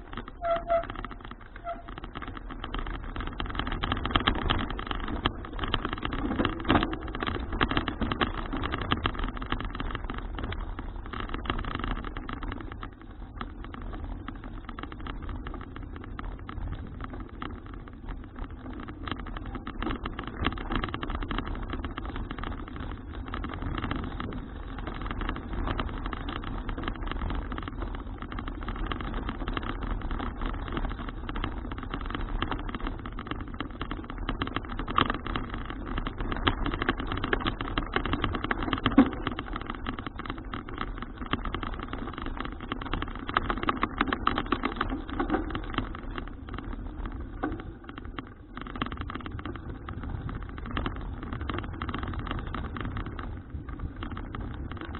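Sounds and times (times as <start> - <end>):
bicycle rattles and knocks: 0.0 - 54.9
bicycle riding rumble: 0.0 - 54.9.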